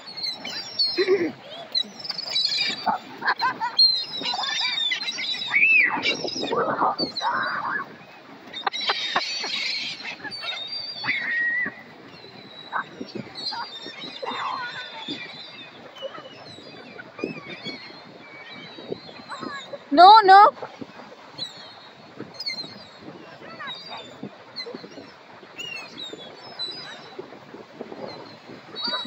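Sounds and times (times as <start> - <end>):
seagulls calling: 0.0 - 27.3, 27.9 - 29.0.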